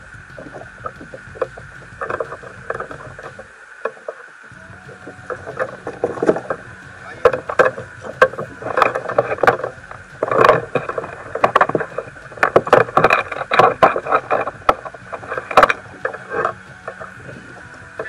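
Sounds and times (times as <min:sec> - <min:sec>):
knocks and clicks of handling gear: 0:00.0 - 0:03.4, 0:04.5 - 0:18.0.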